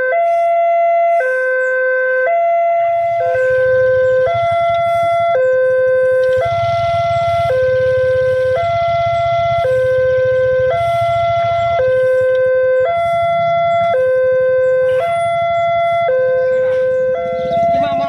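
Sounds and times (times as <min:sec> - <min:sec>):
two-tone crossing alarm: 0:00.0 - 0:18.0.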